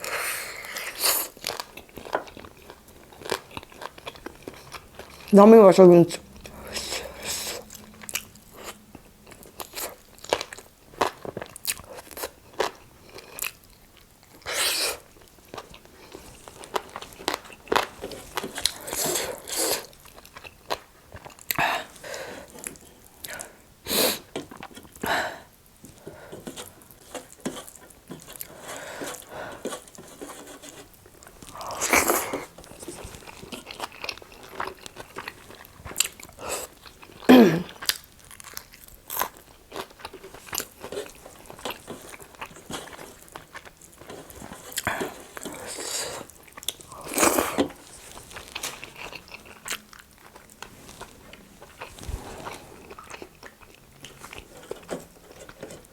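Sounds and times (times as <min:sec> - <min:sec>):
crunchy chewing of fried chicken: 0:00.0 - 0:05.4, 0:06.2 - 0:55.9.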